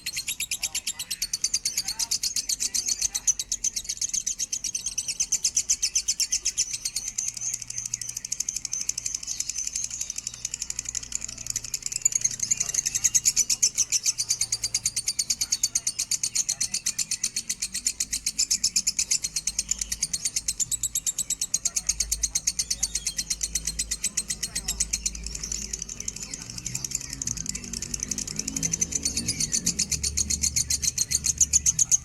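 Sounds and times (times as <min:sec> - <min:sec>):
lovebird chirping: 0:00.0 - 0:32.0.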